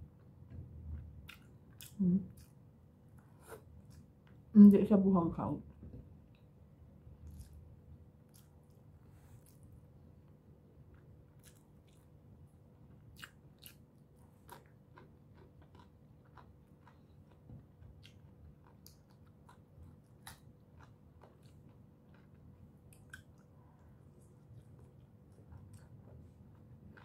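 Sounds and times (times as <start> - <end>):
faint steady hum: 0.0 - 27.0
person chewing food: 0.1 - 4.5, 6.2 - 27.0.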